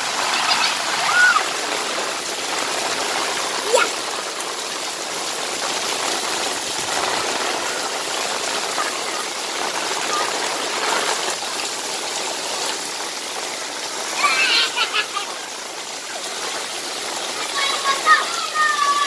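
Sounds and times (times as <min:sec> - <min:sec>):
floodwater running: 0:00.0 - 0:19.0
heavy rain on pavement: 0:00.0 - 0:19.0.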